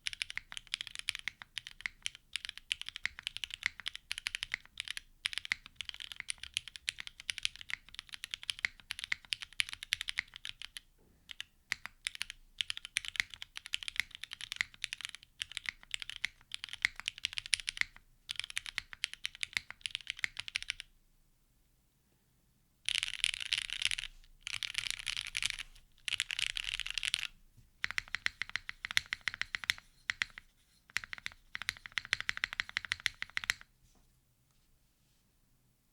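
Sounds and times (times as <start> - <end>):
mechanical keyboard typing: 0.0 - 20.8, 22.9 - 33.7.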